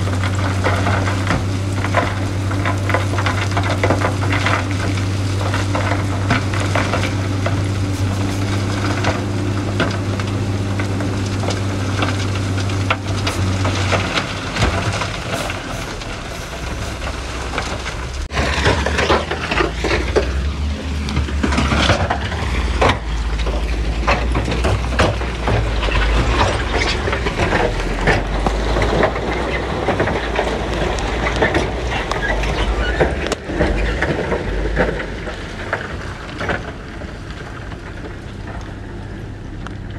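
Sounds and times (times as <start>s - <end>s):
stones knocking and clattering: 0.0s - 20.5s, 21.1s - 38.8s
heavy diesel machinery running: 0.0s - 39.9s.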